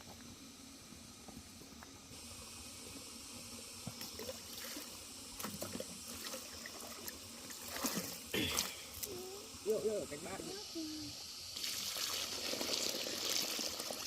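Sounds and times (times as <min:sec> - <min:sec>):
water running from an outlet: 0:00.0 - 0:14.0.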